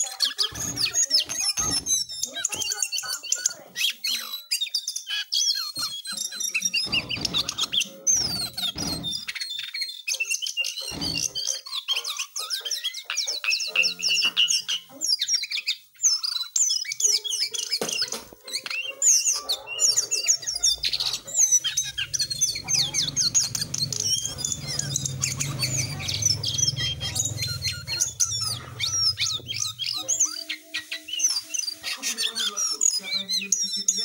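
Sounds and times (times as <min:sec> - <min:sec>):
songbird chirping and trilling: 0:00.0 - 0:34.0.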